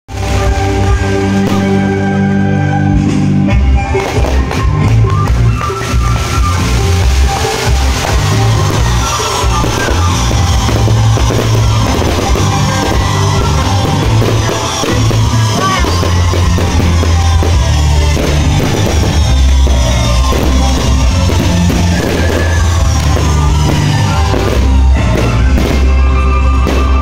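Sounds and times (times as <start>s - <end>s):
loud rock music with drums: 0.1s - 27.0s.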